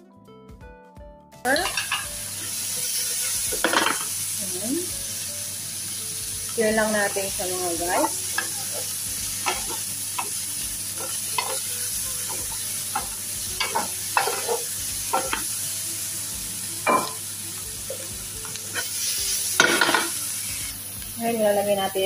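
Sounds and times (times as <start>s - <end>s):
food sizzling in hot oil: 1.5s - 22.0s.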